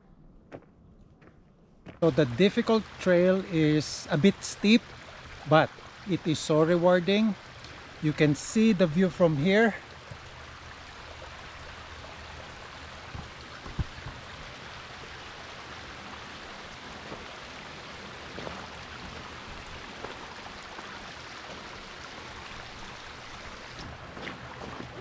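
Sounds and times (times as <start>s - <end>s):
distant running water: 1.8s - 25.0s.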